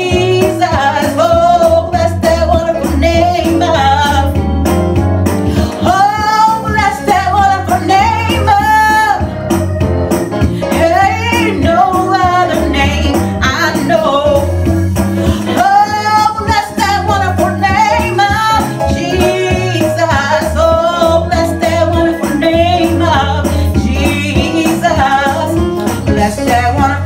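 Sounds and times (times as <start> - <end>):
woman singing gospel: 0.0 - 4.4, 5.6 - 9.4, 10.6 - 14.6, 15.4 - 27.0
instrumental accompaniment: 0.0 - 27.0.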